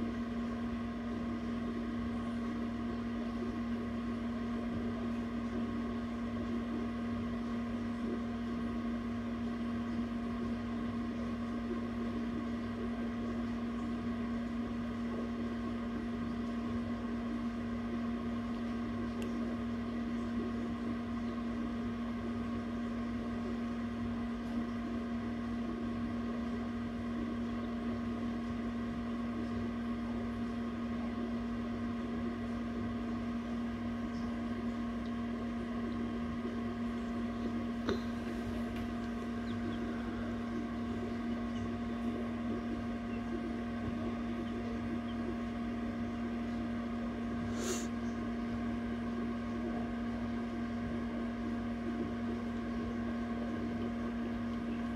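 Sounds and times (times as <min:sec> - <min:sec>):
incubator humming: 0:00.0 - 0:54.9.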